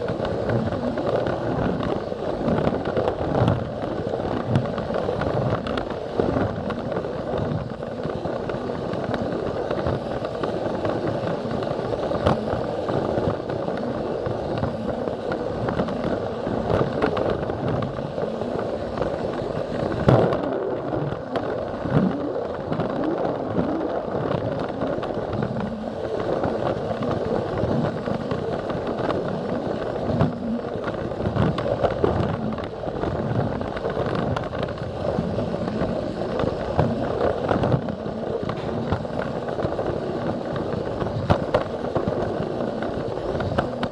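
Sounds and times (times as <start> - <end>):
plastic wheels clicking on track: 0.0 - 43.9.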